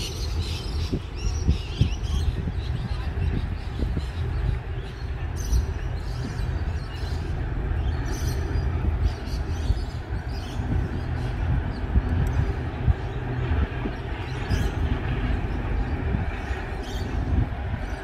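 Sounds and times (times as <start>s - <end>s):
freight train rumbling over bridge: 0.0s - 18.0s.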